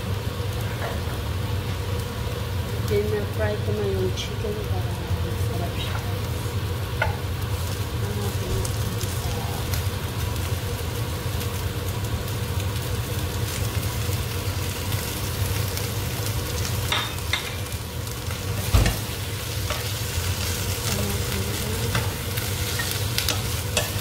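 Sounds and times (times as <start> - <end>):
food sizzling in pot: 0.0 - 24.0.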